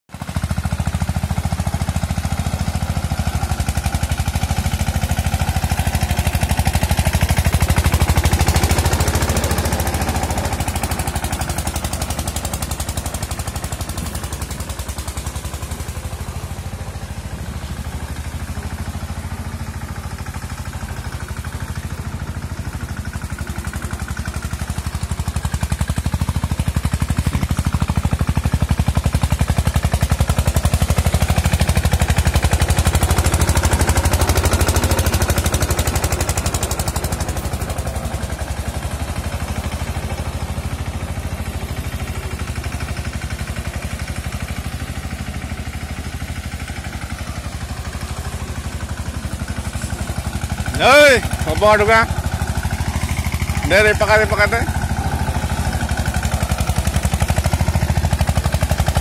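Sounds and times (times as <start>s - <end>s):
tractor diesel engine chugging: 0.1s - 59.0s.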